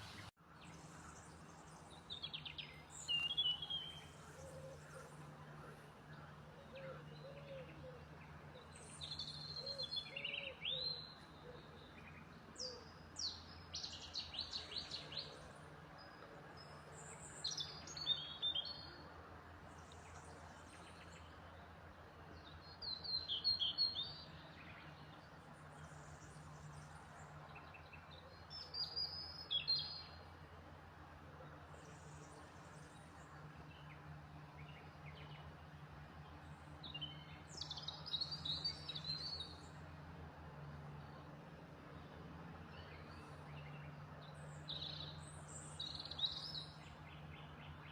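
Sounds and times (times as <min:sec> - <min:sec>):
small songbirds singing: 0:00.0 - 0:30.8, 0:31.4 - 0:40.0, 0:40.7 - 0:47.9.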